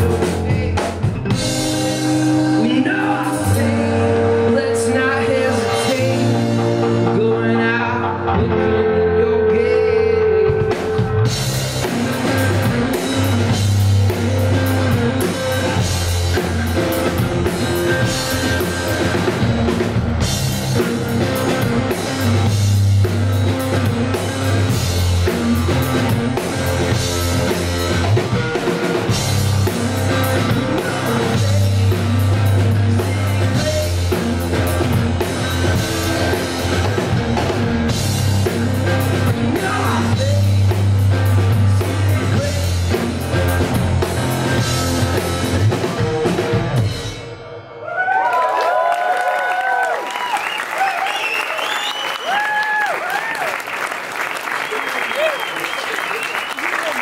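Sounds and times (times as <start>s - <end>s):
drum kit: 0.0s - 8.0s, 9.5s - 47.6s
electric guitar: 0.0s - 48.9s.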